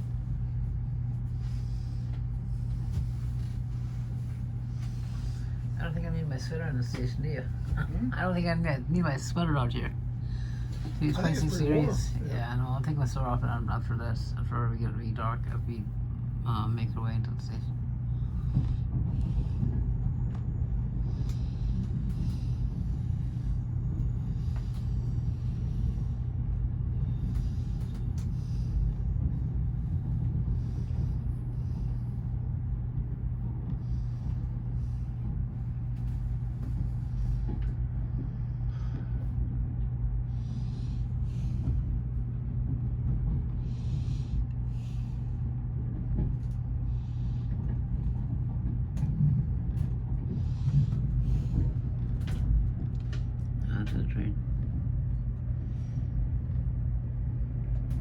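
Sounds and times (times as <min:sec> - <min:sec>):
train rumble and hum: 0:00.0 - 0:58.0.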